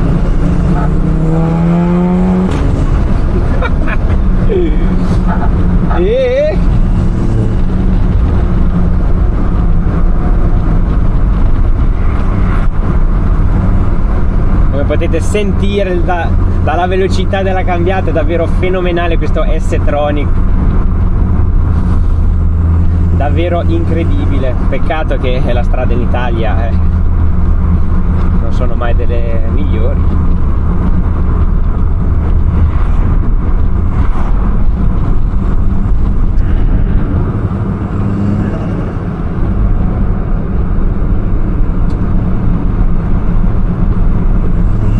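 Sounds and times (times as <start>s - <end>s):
road noise: 0.0s - 44.9s
turbocharged car engine accelerating: 0.0s - 44.9s.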